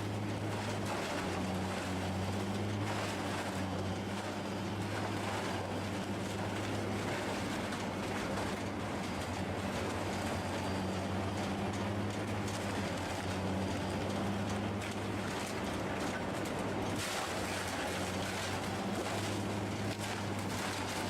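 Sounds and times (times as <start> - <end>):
wood chipper engine running: 0.0 - 21.0.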